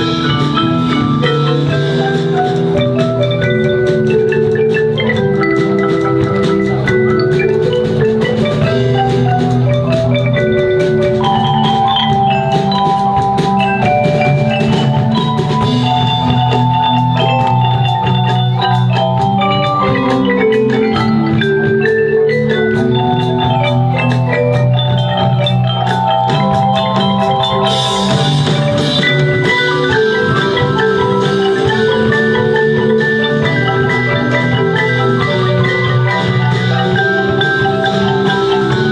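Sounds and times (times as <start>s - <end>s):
marimba note runs: 0.0s - 38.9s.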